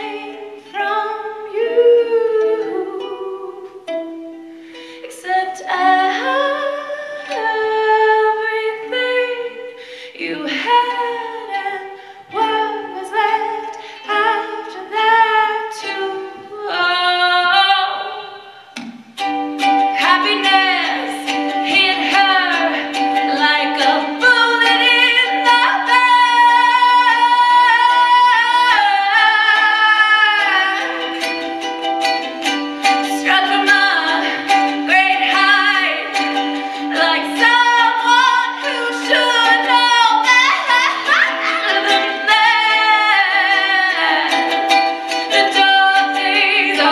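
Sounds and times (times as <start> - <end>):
woman singing: 0.0 - 4.2, 5.0 - 18.8, 19.8 - 31.5, 32.4 - 46.9
strummed ukulele chords: 0.0 - 46.9.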